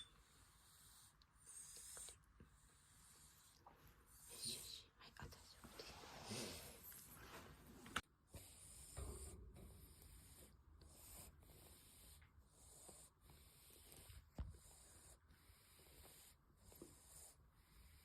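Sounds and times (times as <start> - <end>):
cat snuffly breathing: 0.2 - 7.2, 8.3 - 18.0.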